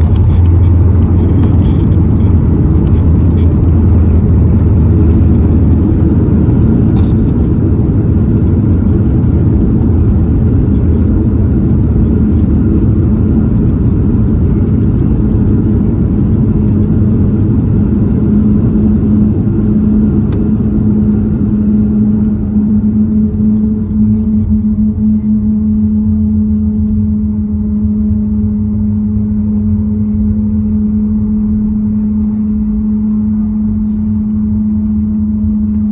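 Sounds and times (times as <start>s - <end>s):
airliner rolling on runway: 0.0s - 35.9s
steady hum: 0.0s - 35.9s.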